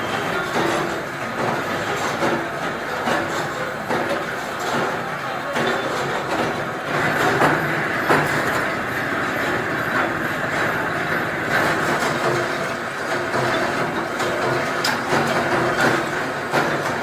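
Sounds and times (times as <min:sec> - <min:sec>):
machinery metallic clatter: 0:00.0 - 0:17.0.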